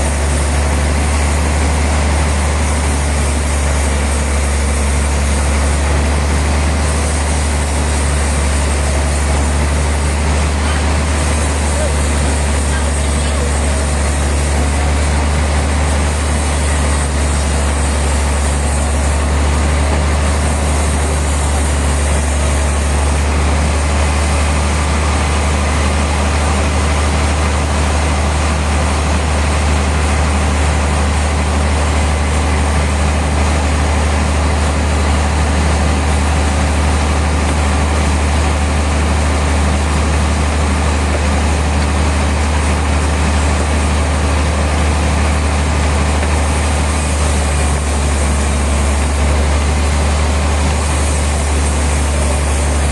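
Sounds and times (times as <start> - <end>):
sawmill machinery humming: 0.0 - 52.9.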